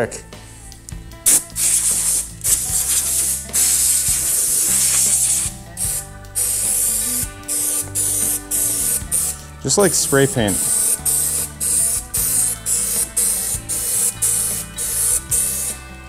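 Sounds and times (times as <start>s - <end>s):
quiet background music: 0.0s - 16.0s
hissing spray bursts: 1.2s - 15.8s.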